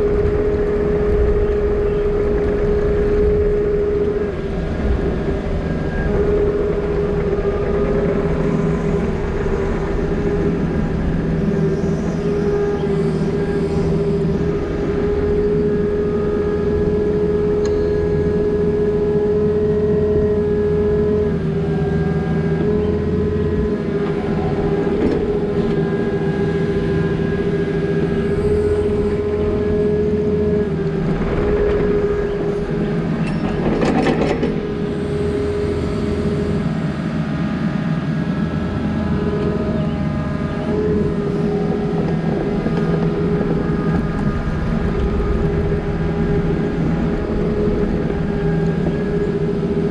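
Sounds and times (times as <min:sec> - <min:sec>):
diesel engine running: 0:00.0 - 0:49.9
steady whine: 0:00.0 - 0:49.9.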